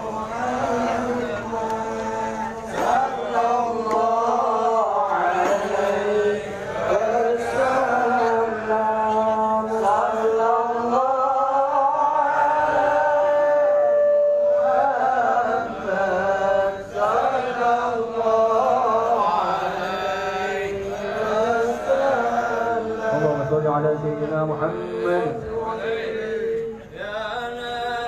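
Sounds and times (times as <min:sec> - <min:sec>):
men chanting a hymn: 0:00.0 - 0:28.0.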